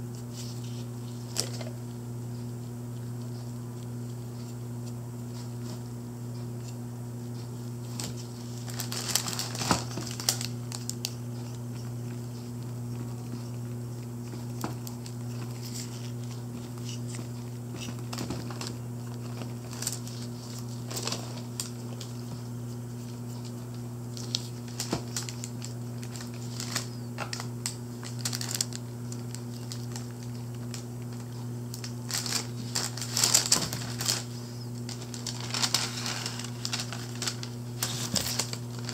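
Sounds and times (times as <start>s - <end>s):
steady low hum: 0.0s - 38.9s
paper crinkling: 7.3s - 38.9s.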